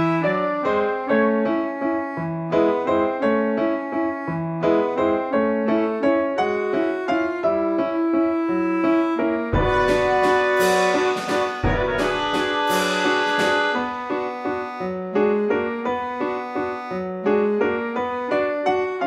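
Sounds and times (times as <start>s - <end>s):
keyboard melody: 0.0s - 19.0s.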